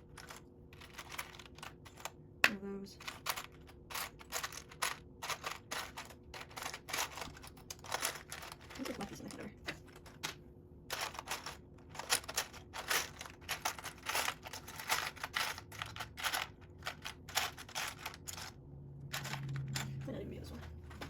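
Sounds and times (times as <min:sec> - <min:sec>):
plastic bricks clattering: 0:00.0 - 0:20.0.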